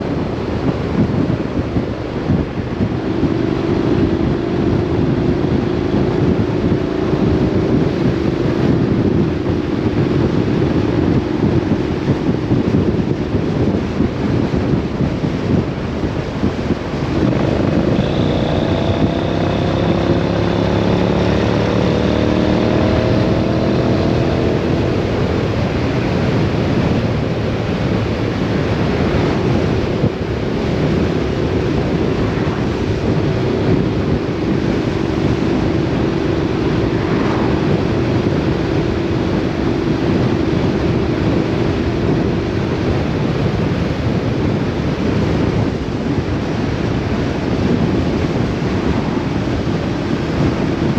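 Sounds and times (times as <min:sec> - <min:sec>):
vehicle engine running: 0:00.0 - 0:50.9
wind rush on microphone: 0:00.0 - 0:50.9.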